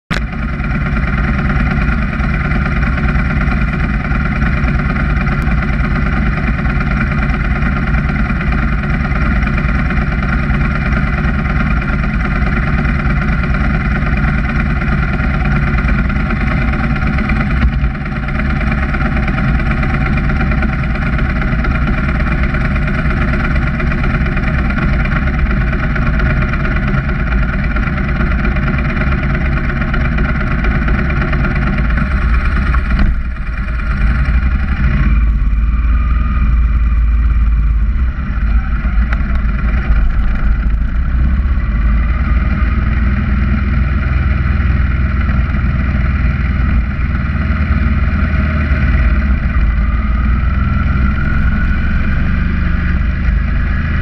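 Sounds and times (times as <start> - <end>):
motorcycle engine idling: 0.1 - 54.0.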